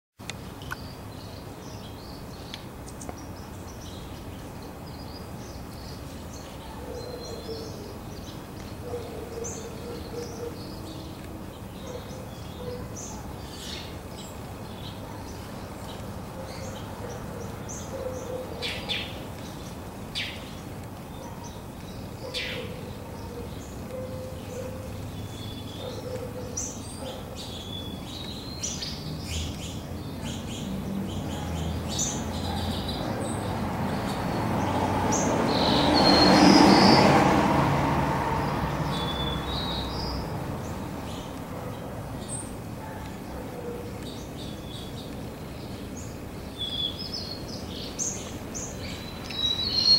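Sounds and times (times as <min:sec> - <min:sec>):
distant traffic hum: 0:00.2 - 0:49.9
songbirds chirping: 0:00.2 - 0:49.9.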